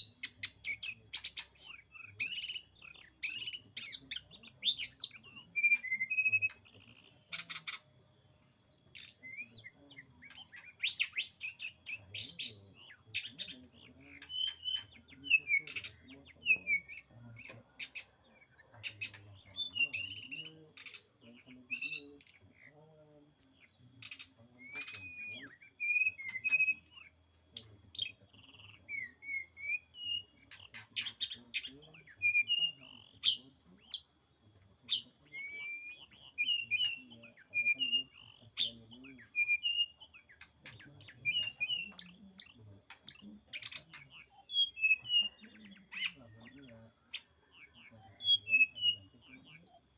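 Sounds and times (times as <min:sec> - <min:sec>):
bird song chirps and trills: 0:00.0 - 0:49.9.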